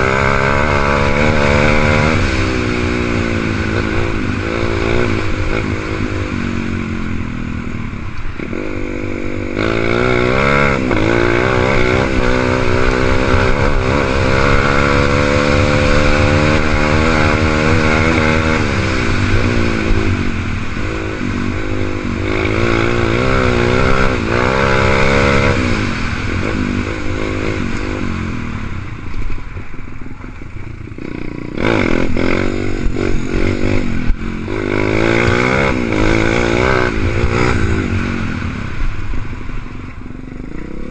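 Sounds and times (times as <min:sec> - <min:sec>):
dirt bike engine revving: 0:00.0 - 0:29.6, 0:30.3 - 0:40.9.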